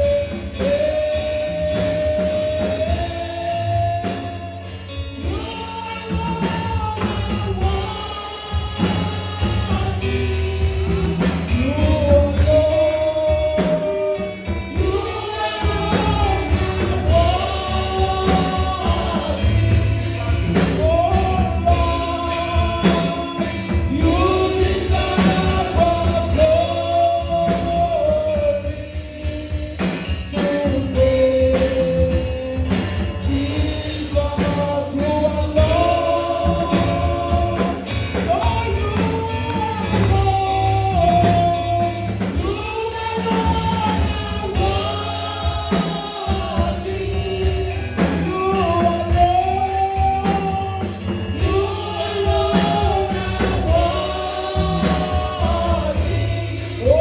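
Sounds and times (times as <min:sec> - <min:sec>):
voices singing praise song: 0:00.0 - 0:57.0.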